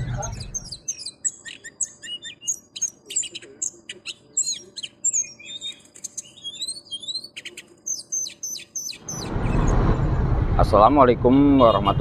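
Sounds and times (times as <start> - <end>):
songbird chirping: 0.0 - 10.2
street noise hum: 0.0 - 12.0.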